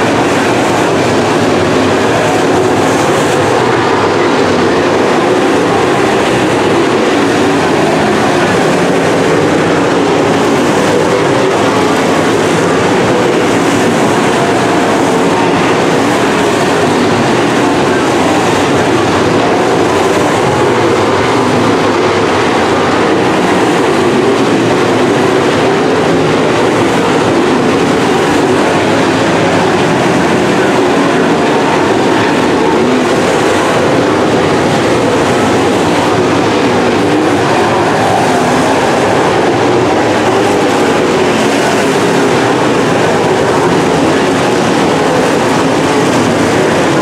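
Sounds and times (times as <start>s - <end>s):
race car engines roaring: 0.0s - 47.0s.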